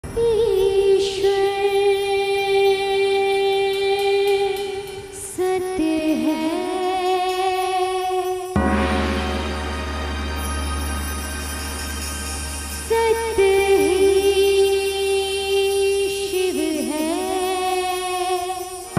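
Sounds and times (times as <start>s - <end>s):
devotional singing with vibrato: 0.0s - 18.9s.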